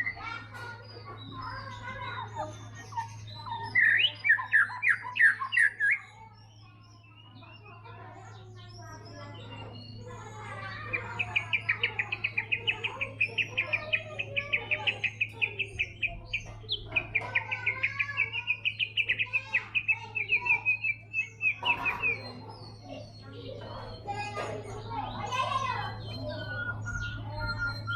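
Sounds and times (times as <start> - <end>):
bird singing rapid trill: 0.0 - 27.9.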